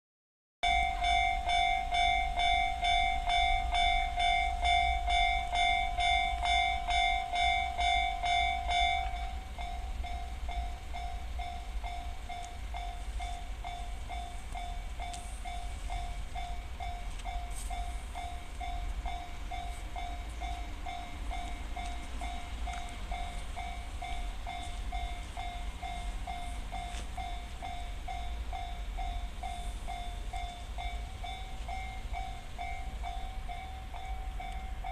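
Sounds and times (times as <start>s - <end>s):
level-crossing electronic bell: 0.6s - 34.9s.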